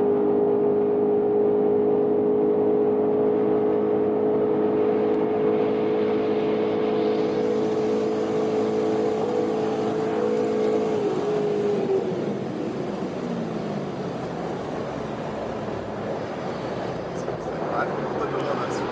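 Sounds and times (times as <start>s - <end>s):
car engine at high revs: 0.0s - 18.9s
wind and road noise: 0.0s - 18.9s.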